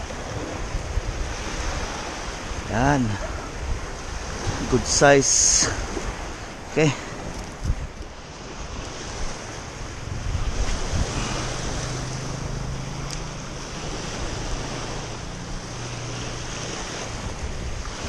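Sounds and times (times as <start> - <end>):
waves washing over pebbles: 0.0 - 18.0
wind buffeting microphone: 0.0 - 18.0.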